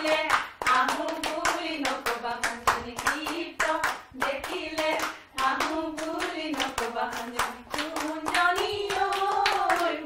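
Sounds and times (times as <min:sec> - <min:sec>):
people clapping in rhythm: 0:00.0 - 0:10.0
people singing: 0:00.0 - 0:10.0.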